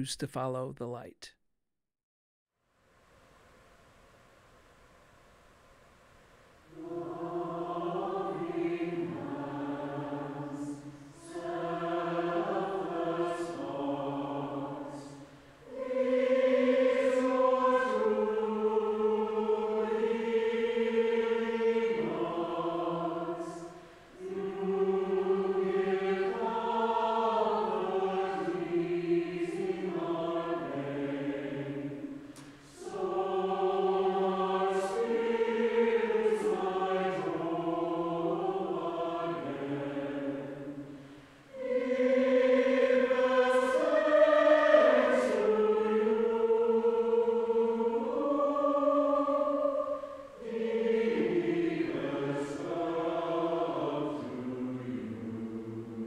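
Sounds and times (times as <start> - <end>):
mixed choir singing: 6.7 - 56.0.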